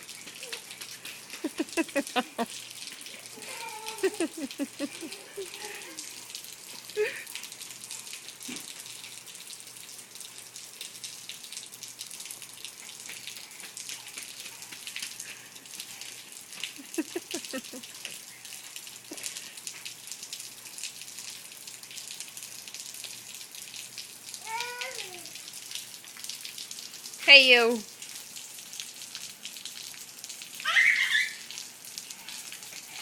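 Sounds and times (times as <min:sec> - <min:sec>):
rain splashing on hard surfaces: 0:00.0 - 0:33.0.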